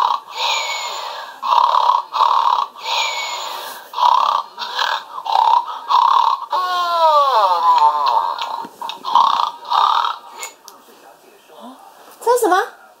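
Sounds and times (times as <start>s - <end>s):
rhythmic snoring: 0.0s - 10.6s.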